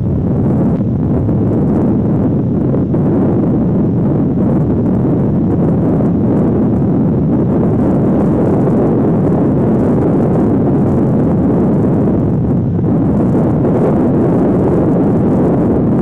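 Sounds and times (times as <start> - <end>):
wind blowing across microphone: 0.0 - 16.0.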